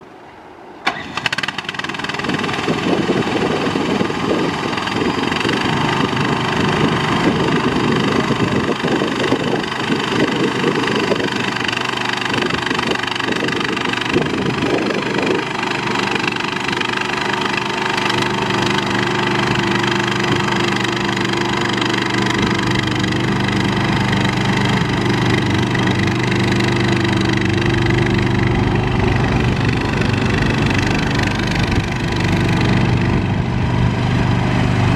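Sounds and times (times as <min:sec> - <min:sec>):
loader engine starting and running: 0:00.8 - 0:34.9.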